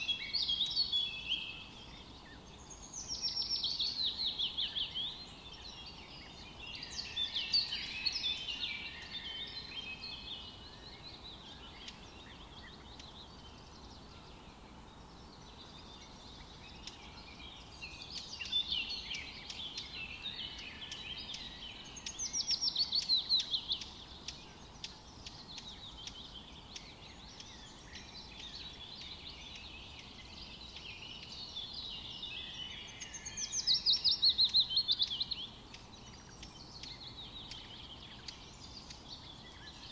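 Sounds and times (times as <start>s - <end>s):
faint outdoor hiss: 0.0s - 39.9s
songbirds twittering: 0.0s - 39.9s.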